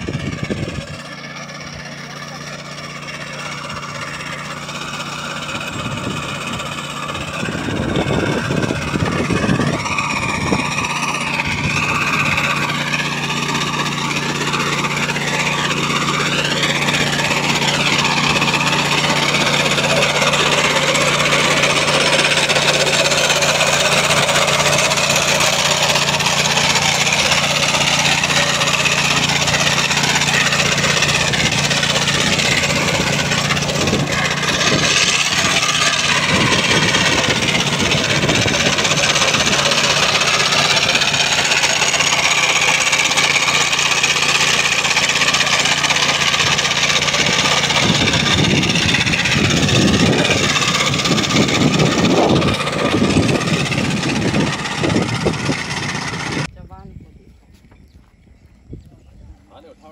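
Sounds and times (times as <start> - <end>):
small engine of sod cutter: 0.0 - 56.9.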